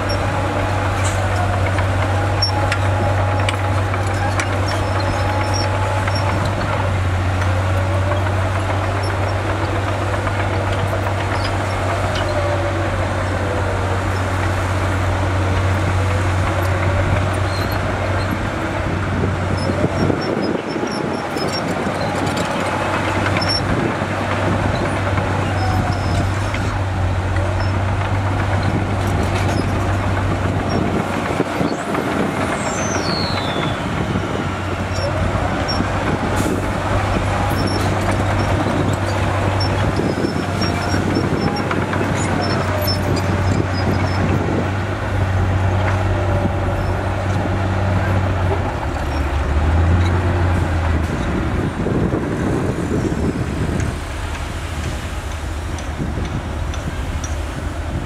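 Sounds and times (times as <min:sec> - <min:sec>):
heavy diesel engines droning: 0:00.0 - 0:58.0
hydraulic tipper body raising: 0:00.0 - 0:58.0.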